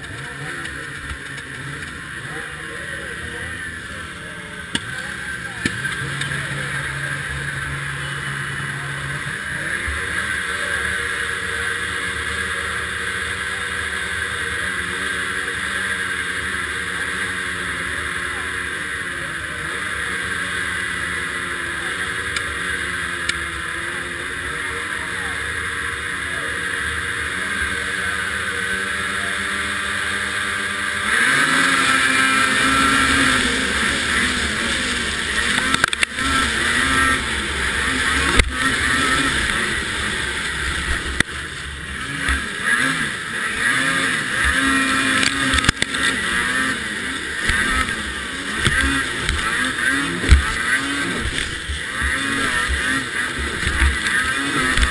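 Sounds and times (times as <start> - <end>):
snowmobile engine revving: 0.0 - 54.9
snowmobile engines idling: 0.0 - 54.9.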